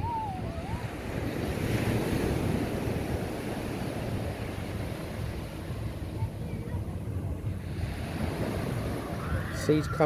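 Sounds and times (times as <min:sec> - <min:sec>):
small waves breaking on sand: 0:00.0 - 0:10.0
wind buffeting microphone: 0:00.0 - 0:10.0.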